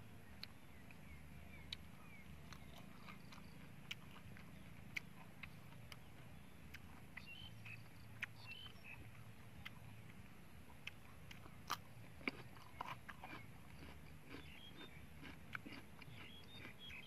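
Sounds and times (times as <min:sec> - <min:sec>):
low steady hum: 0:00.0 - 0:17.0
chewing raw leaves: 0:00.3 - 0:17.0.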